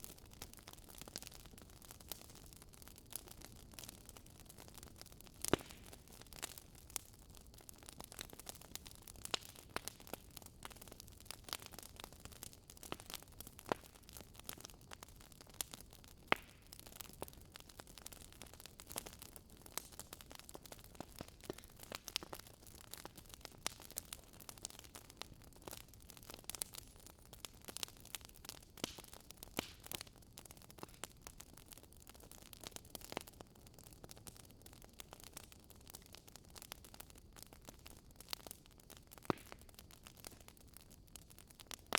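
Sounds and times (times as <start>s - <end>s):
fire soft low hiss: 0.0s - 41.9s
wood crackling and popping: 0.0s - 41.9s.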